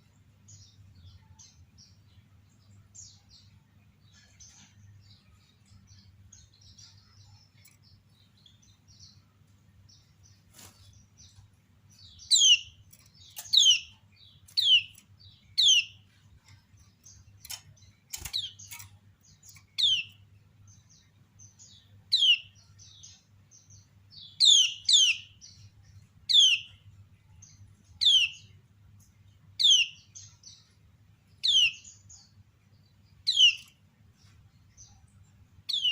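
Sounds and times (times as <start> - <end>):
faint bird chirping: 0.0 - 35.9.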